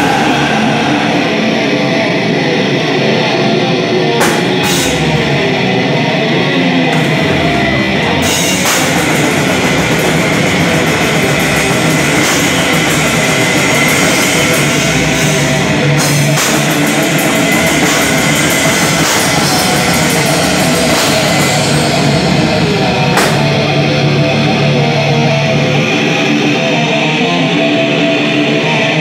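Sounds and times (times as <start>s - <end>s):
pounding drum kit: 0.0s - 3.2s, 4.1s - 6.1s, 6.8s - 26.0s
distorted electric guitars: 0.0s - 29.0s.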